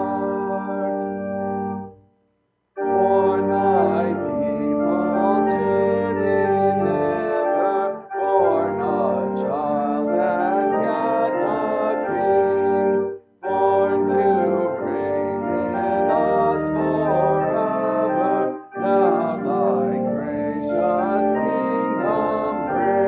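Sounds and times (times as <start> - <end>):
congregation singing a hymn: 0.0 - 1.9, 2.8 - 23.0
church organ chords: 0.0 - 2.0, 2.8 - 23.0.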